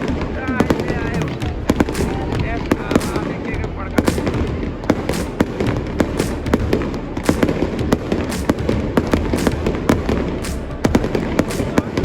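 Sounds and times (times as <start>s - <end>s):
fireworks cracking and popping: 0.0s - 12.0s.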